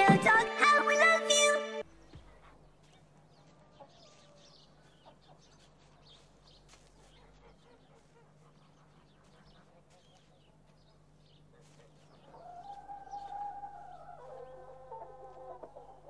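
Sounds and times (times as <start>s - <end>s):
chickens clucking softly: 2.3s - 16.0s.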